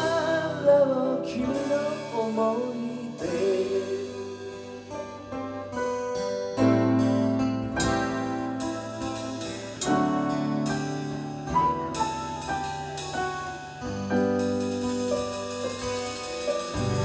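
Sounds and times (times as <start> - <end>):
acoustic guitar: 0.0 - 17.0
electric keyboard chords: 0.0 - 17.0.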